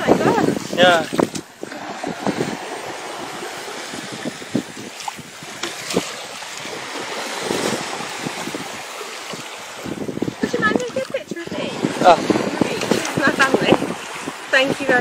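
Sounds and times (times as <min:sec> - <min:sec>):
sea water splashing at shore: 0:00.0 - 0:15.0
wind buffeting the microphone: 0:00.0 - 0:15.0.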